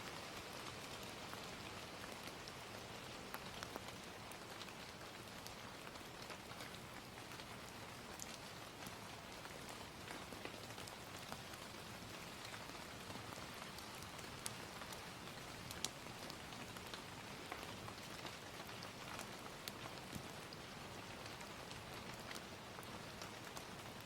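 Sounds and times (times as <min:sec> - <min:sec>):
gentle rain: 0:00.0 - 0:24.0
fire crackling and popping: 0:00.4 - 0:24.0.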